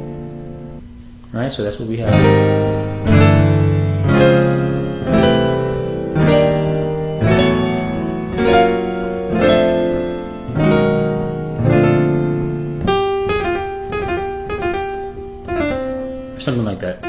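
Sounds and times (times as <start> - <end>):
piano playing jazz chords: 0.0 - 1.0, 1.7 - 17.0.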